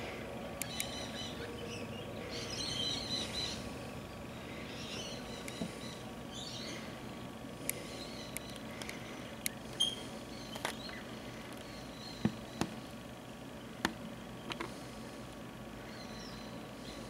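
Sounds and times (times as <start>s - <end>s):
ducks chirping and twittering: 0.0s - 15.0s.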